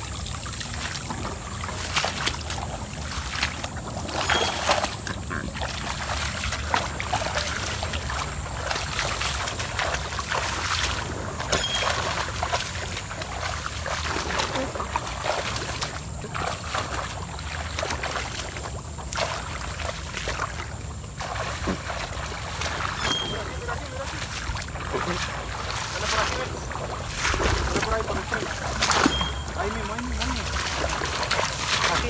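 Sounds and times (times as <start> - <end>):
water sloshing underfoot: 0.0 - 32.0.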